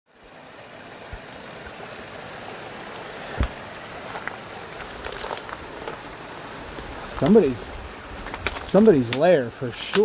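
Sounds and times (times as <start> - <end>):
stream water flowing: 0.1 - 10.0.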